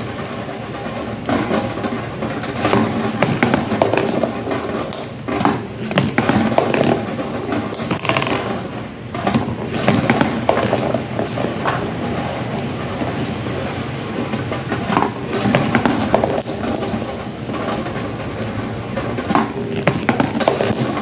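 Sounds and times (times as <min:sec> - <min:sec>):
marbles rolling rumble: 0:00.0 - 0:21.0
marbles clicking on track: 0:01.2 - 0:13.9, 0:14.6 - 0:21.0.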